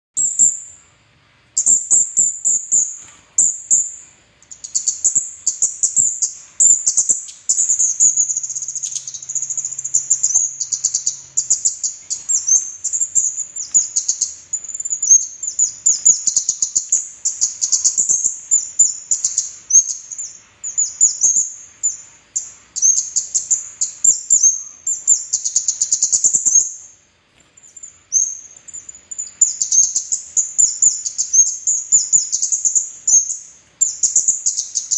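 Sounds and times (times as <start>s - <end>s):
high-pitched bird twittering: 0.2s - 0.7s, 1.6s - 26.9s, 27.6s - 34.9s.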